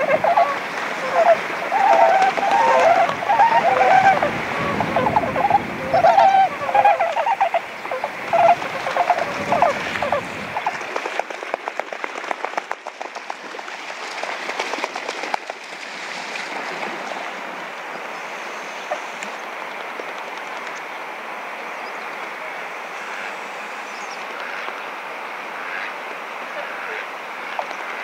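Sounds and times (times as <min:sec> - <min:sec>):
water rushing: 0:00.0 - 0:28.0
waterbirds splashing and wing beats: 0:00.0 - 0:28.0.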